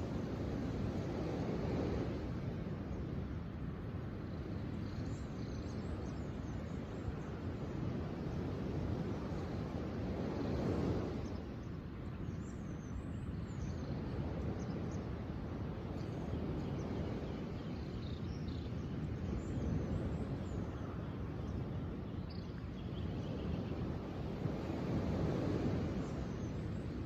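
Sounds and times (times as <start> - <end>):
surf and wind rushing: 0.0 - 27.0.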